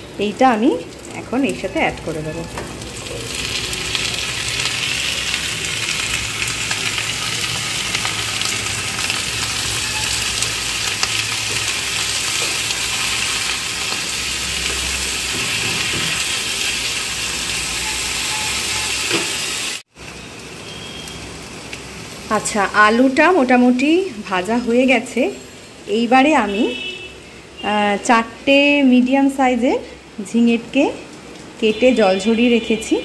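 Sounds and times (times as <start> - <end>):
potatoes sizzling in hot oil: 0.1 - 26.7.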